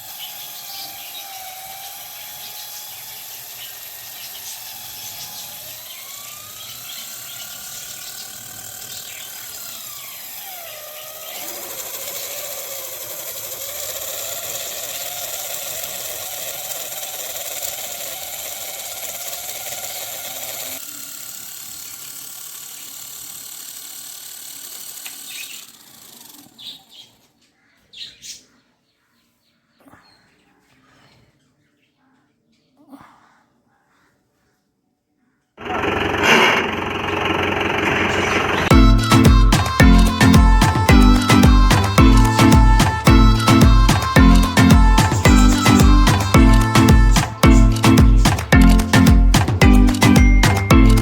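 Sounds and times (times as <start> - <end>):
grinding rasp: 0.0 - 26.5, 35.6 - 51.0
small electric motor whining: 0.0 - 26.8, 35.6 - 51.0.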